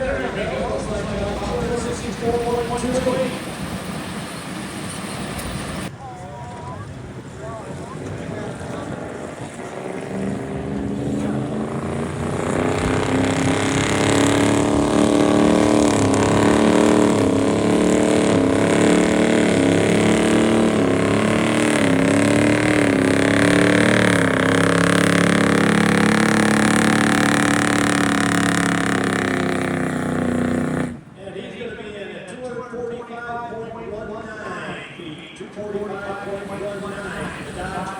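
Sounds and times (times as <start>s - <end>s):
engine running at high revs: 0.0s - 5.9s, 6.8s - 31.2s, 35.8s - 37.9s.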